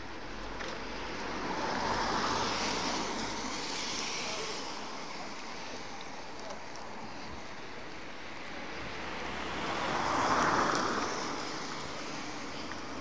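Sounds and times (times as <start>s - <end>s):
passing car tyre hiss: 1.2s - 7.6s, 8.4s - 13.0s.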